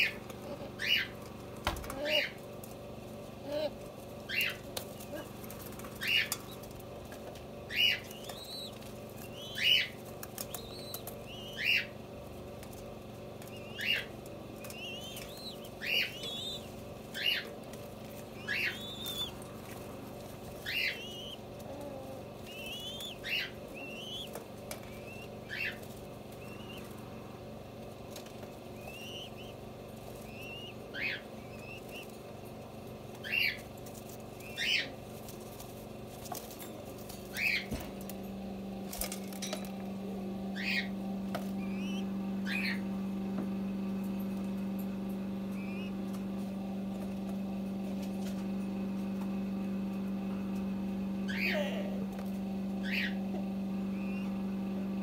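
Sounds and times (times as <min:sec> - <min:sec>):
doves peeping: 0:00.0 - 0:55.0
steady low hum: 0:00.0 - 0:55.0.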